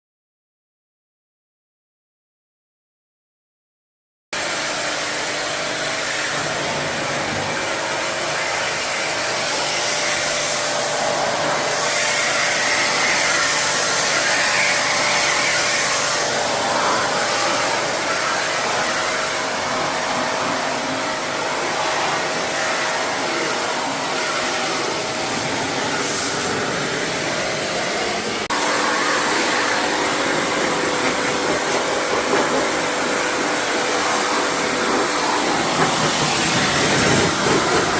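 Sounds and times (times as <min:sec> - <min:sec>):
loud rushing hiss: 0:04.4 - 0:37.9.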